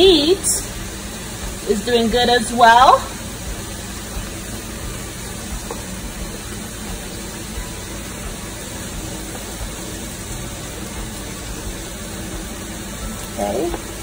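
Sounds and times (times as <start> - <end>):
pots boiling and sizzling: 0.0 - 14.0.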